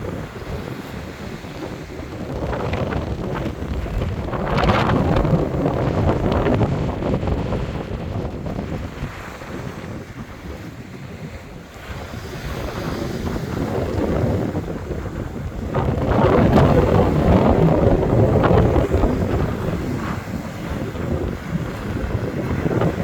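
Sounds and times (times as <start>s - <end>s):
sea waves crashing on beach: 0.0s - 23.0s
wind buffeting microphone: 0.0s - 23.0s.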